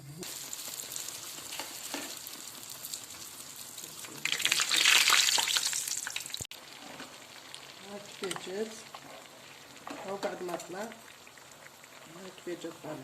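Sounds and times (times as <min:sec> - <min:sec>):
dough sizzling in hot oil: 0:00.0 - 0:13.0.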